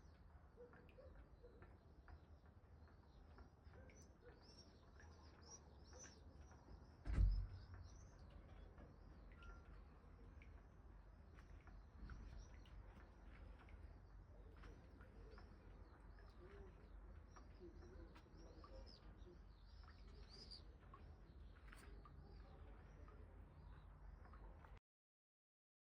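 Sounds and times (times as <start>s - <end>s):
small birds chirping: 0.0s - 24.8s.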